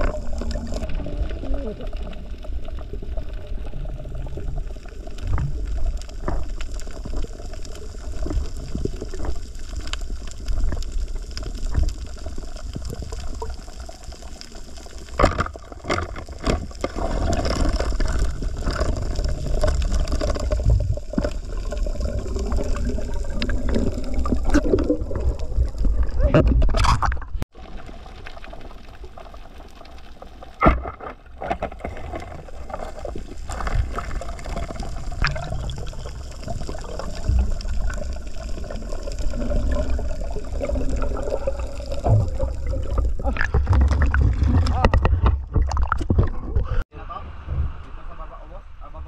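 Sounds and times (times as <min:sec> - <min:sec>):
underwater rush and bubbling: 0:00.0 - 0:47.9.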